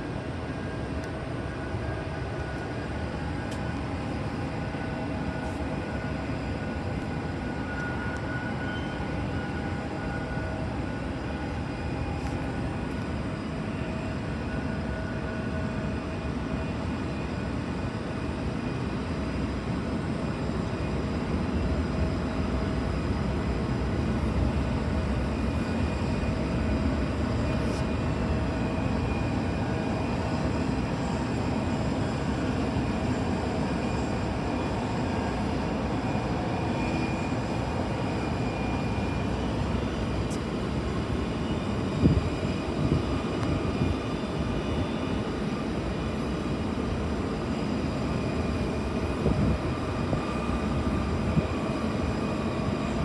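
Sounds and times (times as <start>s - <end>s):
faint steady whining tones: 0.0s - 53.0s
jet engines rumbling: 0.0s - 53.0s.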